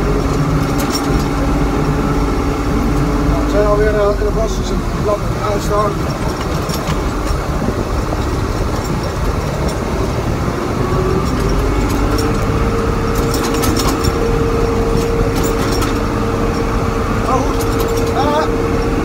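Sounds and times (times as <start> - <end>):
light rattles: 0.0 - 19.0
tractor engine rumbling with whine: 0.0 - 19.0.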